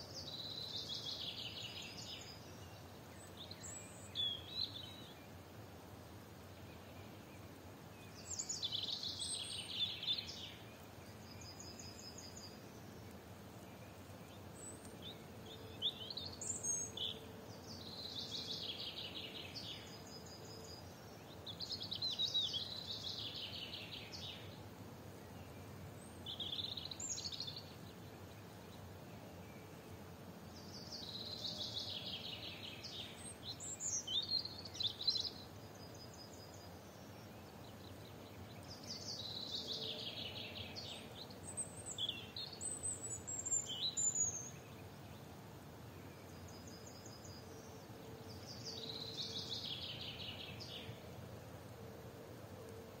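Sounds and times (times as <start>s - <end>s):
faint outdoor background: 0.0s - 53.0s
songbird singing: 0.0s - 53.0s.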